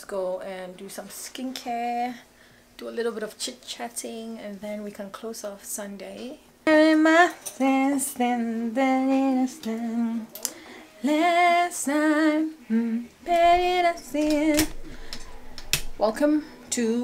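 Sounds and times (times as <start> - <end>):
woman singing unaccompanied: 0.1 - 17.0.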